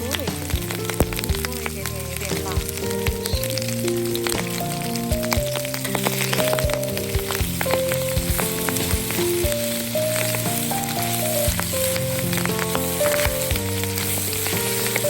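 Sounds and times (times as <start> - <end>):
background music: 0.0 - 15.0
meat sizzling in a pan: 0.0 - 15.0
sharp stirring clicks: 0.0 - 15.0.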